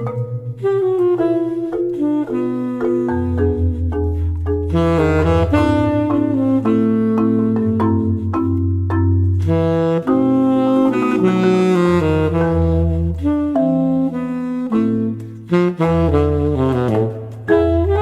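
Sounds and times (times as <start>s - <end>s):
saxophone melody: 0.0s - 18.0s.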